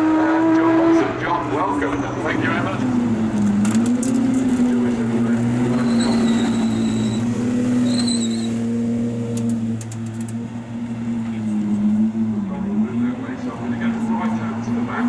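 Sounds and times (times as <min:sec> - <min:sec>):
car engine idling: 0:00.4 - 0:15.0.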